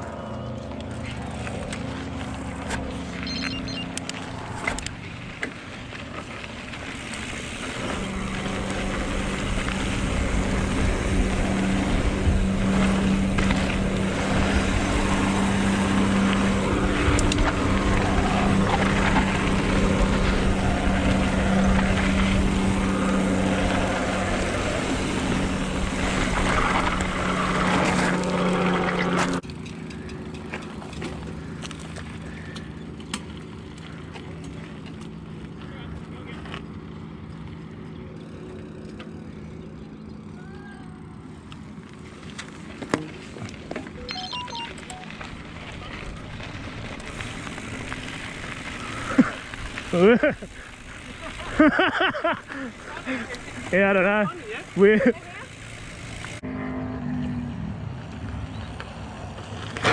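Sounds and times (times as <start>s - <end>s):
tyres rolling on dirt: 0.4s - 56.4s, 57.9s - 59.9s.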